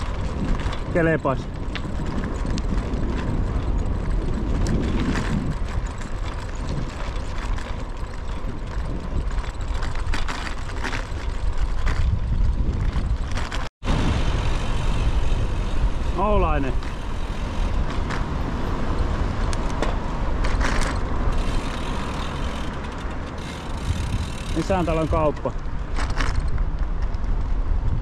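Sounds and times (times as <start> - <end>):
bicycle tyre and road noise: 0.0 - 28.0
wind buffeting microphone: 0.0 - 28.0.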